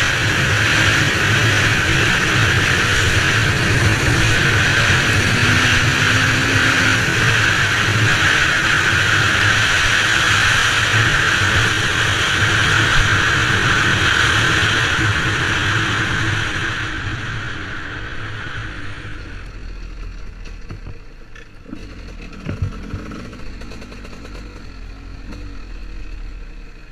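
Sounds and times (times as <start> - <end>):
motorcycle engine at high revs: 0.0 - 26.9.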